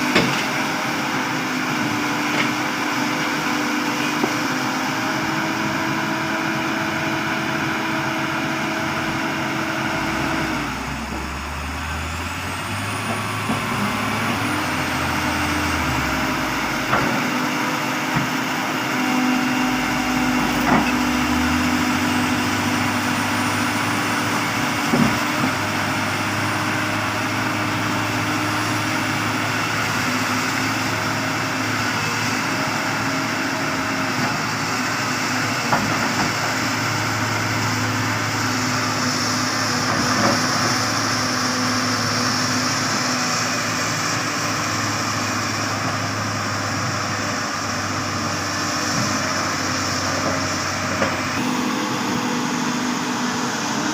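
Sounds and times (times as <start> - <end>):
diesel machinery engine hum: 0.0 - 53.9.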